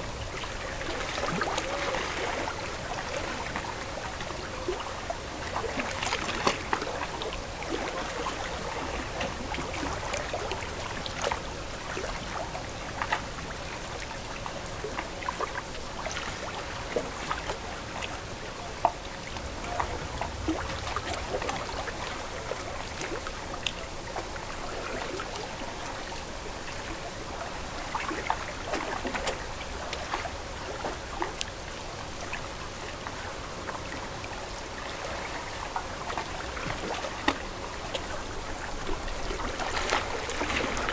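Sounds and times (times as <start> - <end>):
lake water lapping: 0.0 - 40.9.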